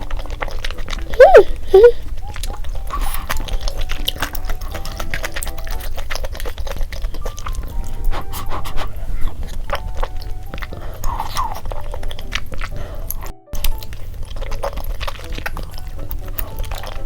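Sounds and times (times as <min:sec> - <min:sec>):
chewing with wet mouth clicks: 0:00.0 - 0:17.0
light background music: 0:00.0 - 0:17.0.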